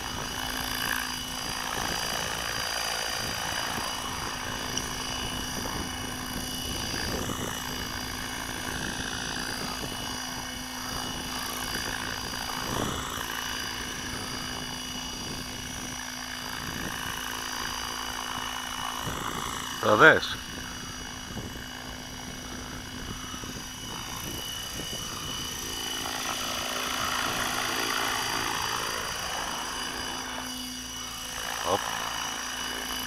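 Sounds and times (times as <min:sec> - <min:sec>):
electric motor high whine: 0:00.0 - 0:33.0
helicopter rotor noise: 0:00.0 - 0:33.0.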